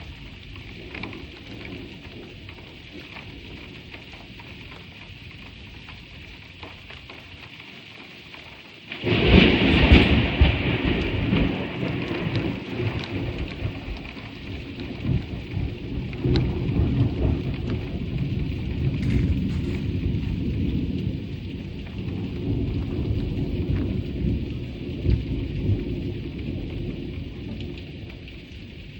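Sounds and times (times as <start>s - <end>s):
thunder rumbling: 0.0s - 7.6s, 8.4s - 28.9s
sharp raindrop taps: 0.0s - 28.9s
steady rain hiss: 0.0s - 28.9s.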